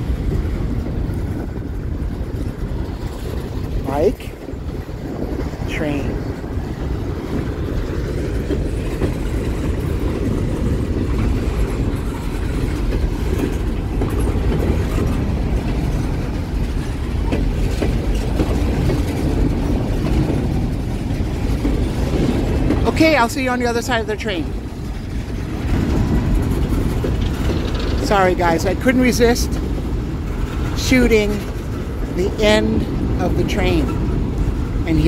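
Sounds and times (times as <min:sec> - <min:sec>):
train wheels rolling on rail: 0:00.0 - 0:35.0.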